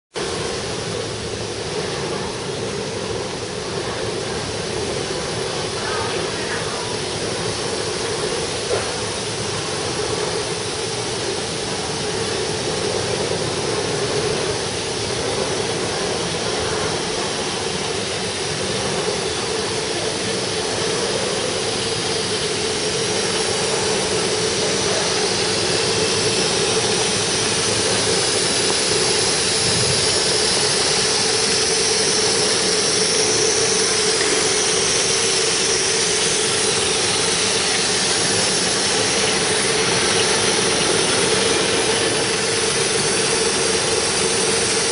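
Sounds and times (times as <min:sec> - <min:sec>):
sewing machine humming: 0:00.2 - 0:44.9.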